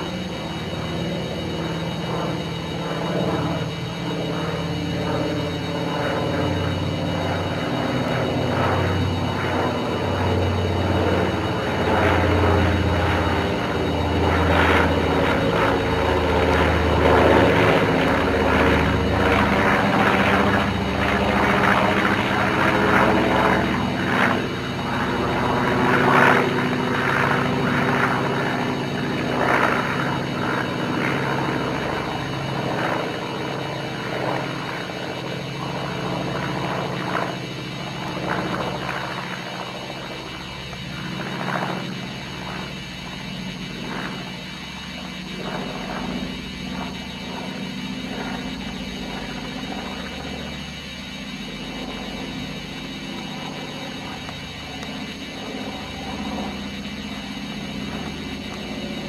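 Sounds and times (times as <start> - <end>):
propeller plane engines droning: 0.0 - 59.0.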